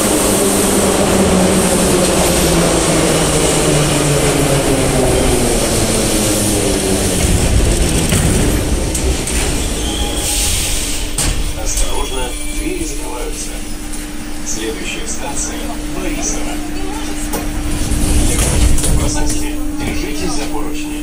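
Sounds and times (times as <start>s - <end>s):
metro train braking to a stop: 0.0s - 21.0s.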